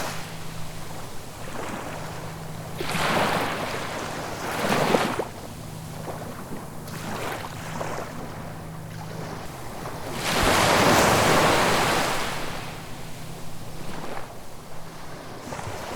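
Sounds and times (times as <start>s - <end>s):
ocean waves breaking: 0.0s - 15.9s.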